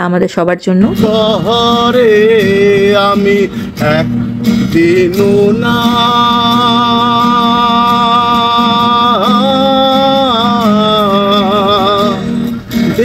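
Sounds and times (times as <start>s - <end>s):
man singing: 0.8s - 13.0s
strummed guitar: 0.8s - 13.0s.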